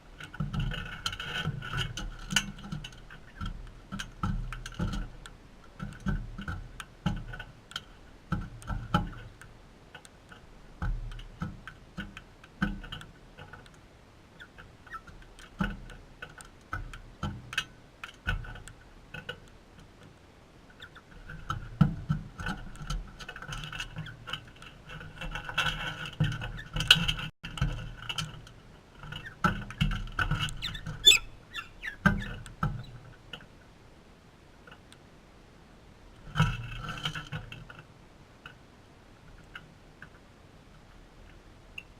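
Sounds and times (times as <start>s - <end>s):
birds pecking: 0.0s - 33.8s.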